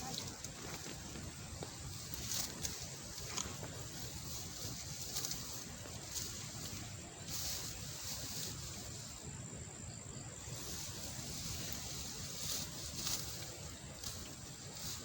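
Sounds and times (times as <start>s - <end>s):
dry rustling of stalks being cut: 0.0s - 9.2s, 10.4s - 15.0s
wind rumbling on microphone: 0.0s - 15.0s.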